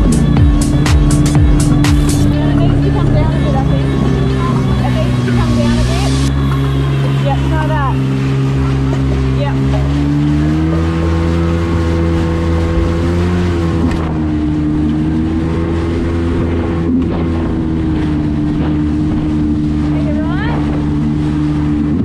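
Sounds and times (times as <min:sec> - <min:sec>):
jet ski engine running: 0:00.0 - 0:22.0
water rushing along hull: 0:00.0 - 0:22.0.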